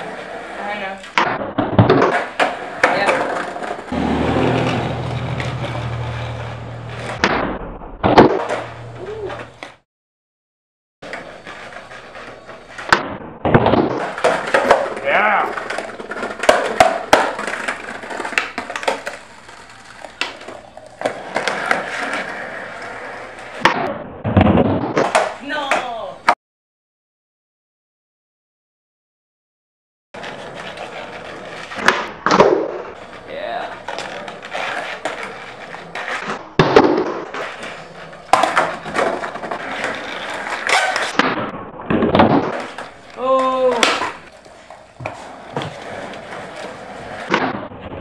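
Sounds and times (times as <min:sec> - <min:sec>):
skateboard clacks: 0:00.0 - 0:07.5, 0:08.1 - 0:09.8, 0:11.0 - 0:26.1, 0:30.2 - 0:48.0
skateboard wheels rolling: 0:00.0 - 0:09.8, 0:11.0 - 0:26.4, 0:30.2 - 0:48.0.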